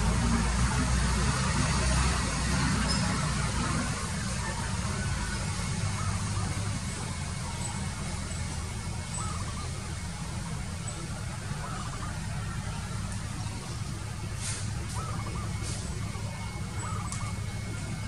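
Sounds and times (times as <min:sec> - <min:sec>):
faint bird calls: 0:02.0 - 0:18.0.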